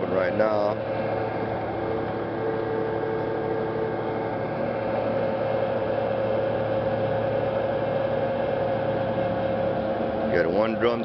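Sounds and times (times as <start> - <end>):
hydraulic winch humming: 0.0 - 11.0.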